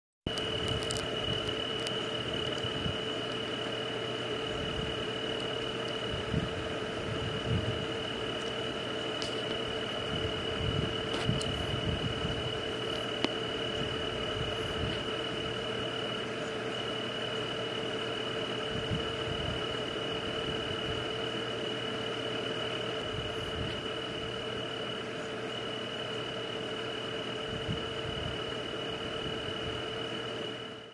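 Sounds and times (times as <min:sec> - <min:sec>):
frogs croaking: 0:00.3 - 0:30.9
high insect trill: 0:00.3 - 0:30.9
low steady drone: 0:00.3 - 0:30.9.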